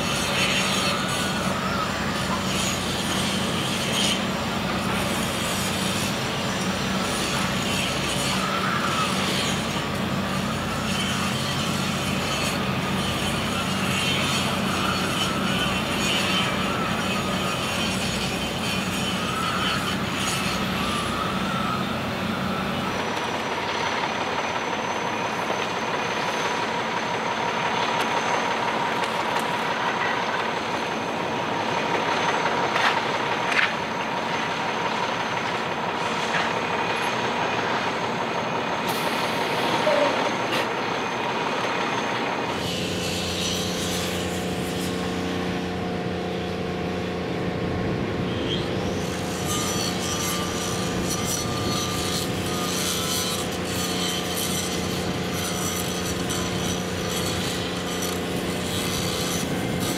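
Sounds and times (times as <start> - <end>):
concrete mixer truck running: 0.0 - 59.9
steady whine: 0.0 - 59.9.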